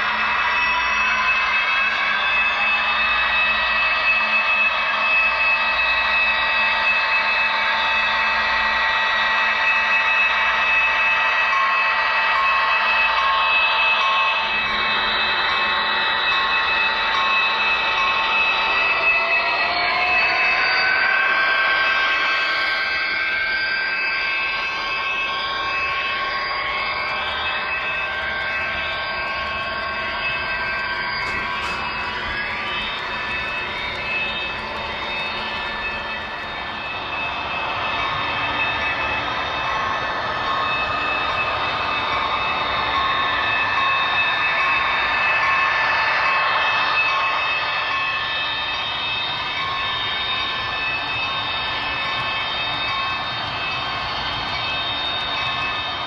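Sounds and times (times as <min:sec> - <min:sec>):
model train engine drone: 0:00.0 - 0:56.0.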